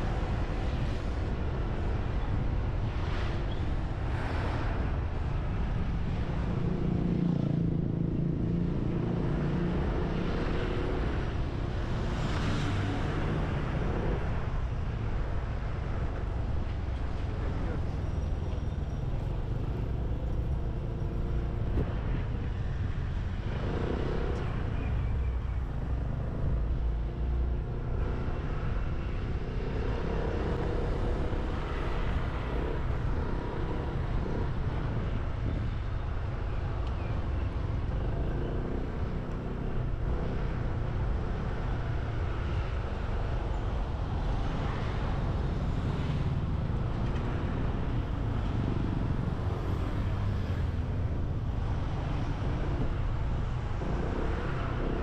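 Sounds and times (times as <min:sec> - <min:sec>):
passing road traffic: 0:00.0 - 0:55.0
wind rumble on microphone: 0:00.0 - 0:55.0.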